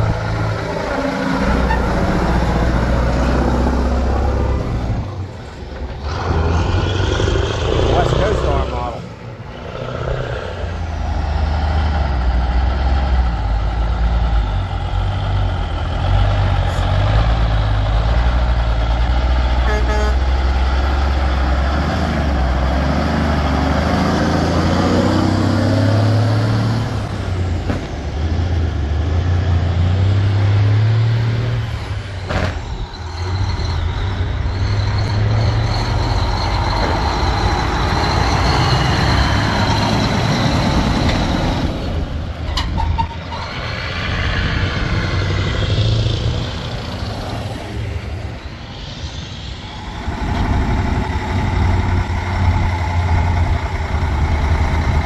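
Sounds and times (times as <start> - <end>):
diesel trucks accelerating: 0.0 - 55.0.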